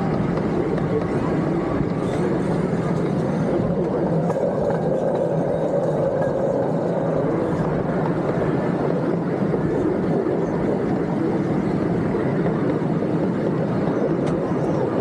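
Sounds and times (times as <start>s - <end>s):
miniature train running: 0.0s - 15.0s.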